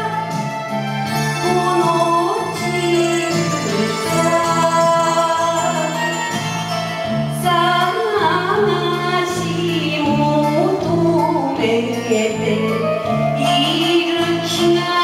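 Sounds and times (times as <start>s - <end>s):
woman singing into a microphone: 0.0s - 6.6s, 7.3s - 15.0s
karaoke backing track: 0.0s - 15.0s.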